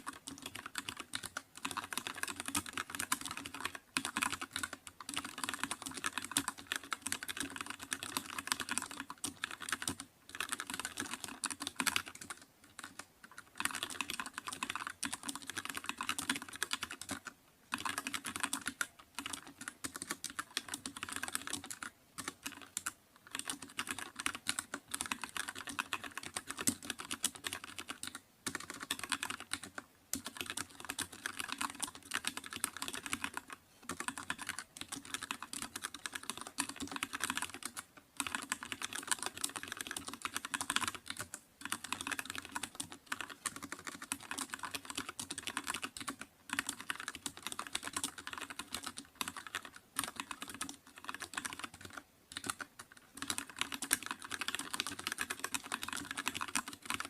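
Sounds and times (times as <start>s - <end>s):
keyboard typing: 0.0s - 57.0s.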